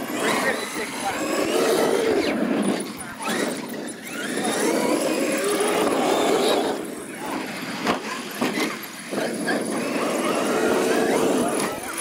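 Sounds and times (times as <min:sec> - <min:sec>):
electric motors whining: 0:00.0 - 0:12.0
tyres on dirt: 0:00.0 - 0:12.0.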